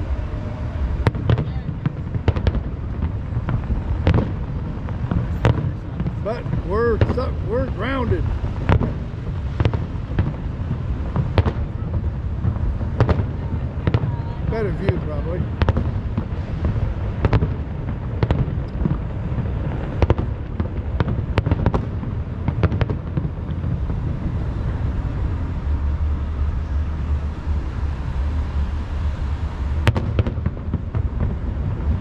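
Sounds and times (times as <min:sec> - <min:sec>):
fireworks bursting: 0:00.0 - 0:32.0
low rumble: 0:00.0 - 0:32.0.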